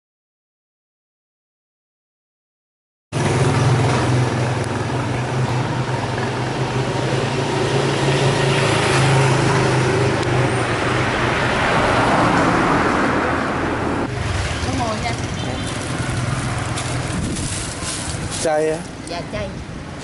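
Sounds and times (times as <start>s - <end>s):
street traffic noise: 3.1s - 20.0s
motor vehicle engine hum: 3.2s - 20.0s.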